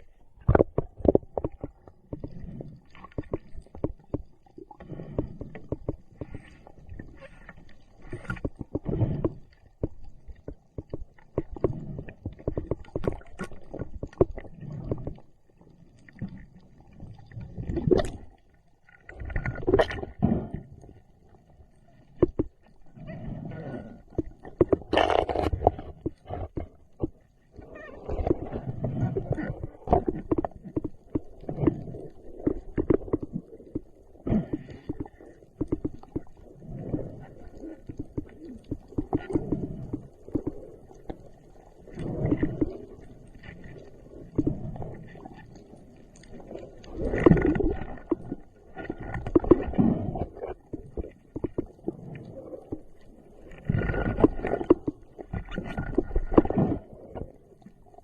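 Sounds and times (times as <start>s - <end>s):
muffled water gurgling and sloshing: 0.0s - 58.0s.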